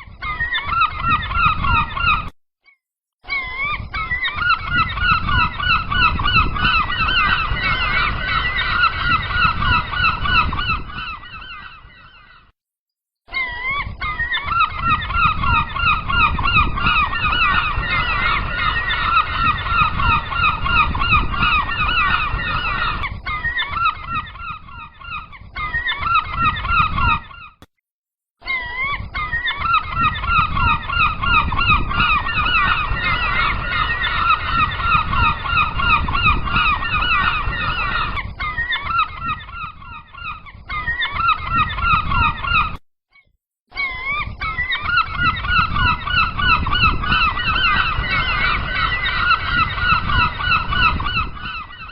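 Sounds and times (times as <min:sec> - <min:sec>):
gulls calling: 0:00.0 - 0:02.4, 0:03.2 - 0:12.5, 0:13.3 - 0:27.6, 0:28.4 - 0:42.8, 0:43.7 - 0:51.9.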